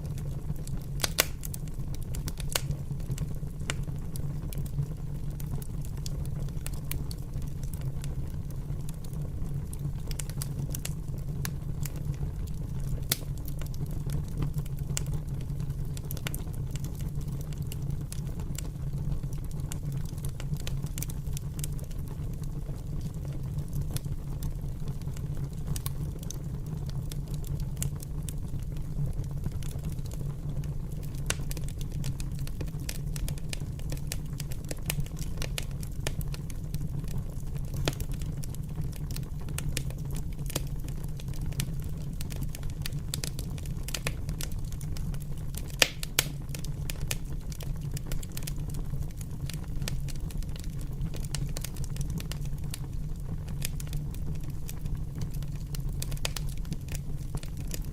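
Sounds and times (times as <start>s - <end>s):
fire crackling: 0.0s - 57.9s.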